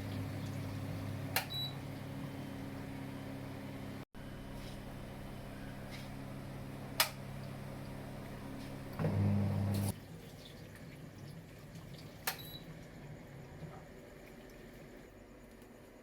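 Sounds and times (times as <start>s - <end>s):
dishwasher humming: 0.0s - 4.0s, 4.6s - 15.2s.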